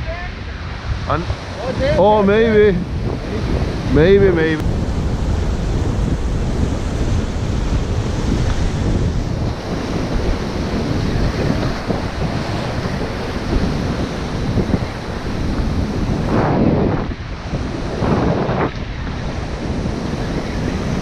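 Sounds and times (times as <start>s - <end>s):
wind buffeting microphone: 0.0s - 21.0s
waves breaking against rocks: 1.4s - 21.0s.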